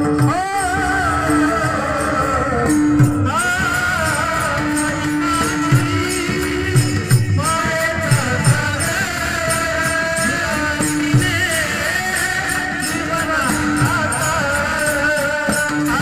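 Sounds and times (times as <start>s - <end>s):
jingling percussion: 0.0s - 16.0s
man singing devotional song: 0.0s - 16.0s.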